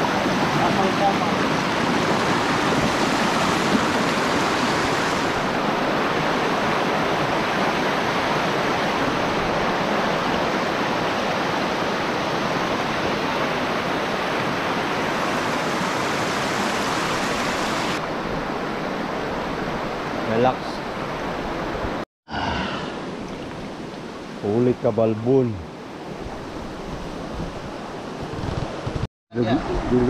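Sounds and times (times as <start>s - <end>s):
flowing water rushing: 0.0s - 22.0s, 22.6s - 30.0s.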